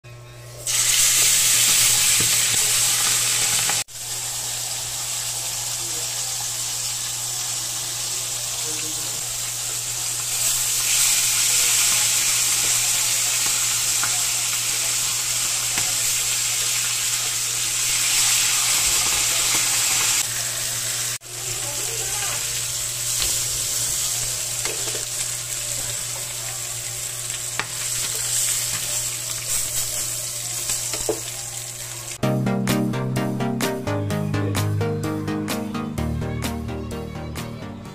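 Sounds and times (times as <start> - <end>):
fish sizzling in hot oil: 0.6 - 32.2.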